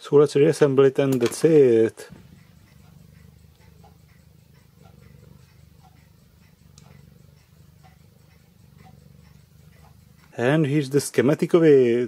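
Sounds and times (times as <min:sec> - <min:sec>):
cat purring: 0:00.4 - 0:12.0
faint ticking: 0:00.5 - 0:12.0.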